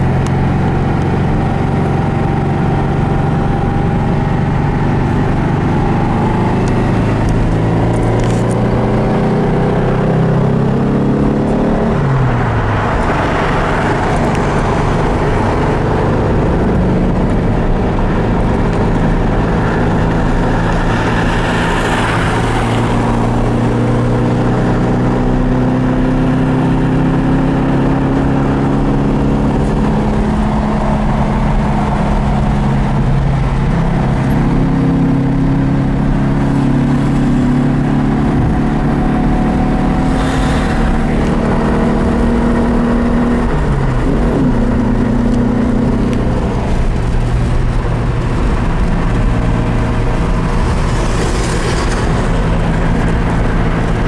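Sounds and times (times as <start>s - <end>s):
car engine running steadily: 0.0s - 54.0s
wind and road noise: 0.0s - 54.0s.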